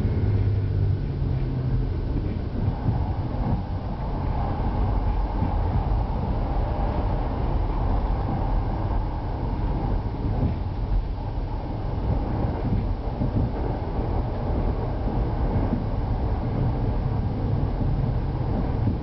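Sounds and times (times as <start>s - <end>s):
railcar engine and wheels on rails: 0.0s - 19.0s.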